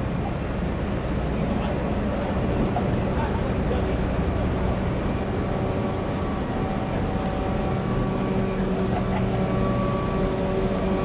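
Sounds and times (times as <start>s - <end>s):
machinery humming drone: 0.0s - 11.0s
rushing noise: 0.0s - 11.0s.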